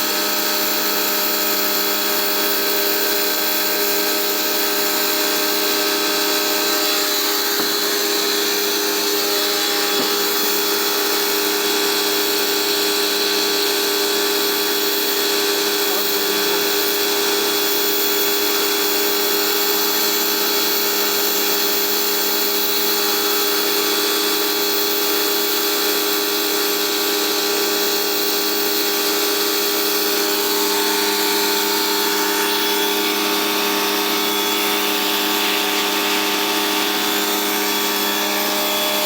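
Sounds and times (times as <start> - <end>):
pressure washer motor humming: 0.0 - 39.0
water jet hissing on concrete: 0.0 - 39.0.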